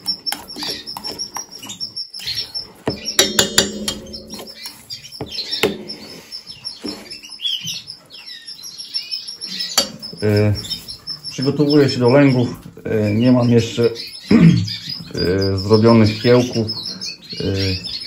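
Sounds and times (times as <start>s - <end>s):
canaries chirping: 0.0s - 18.0s.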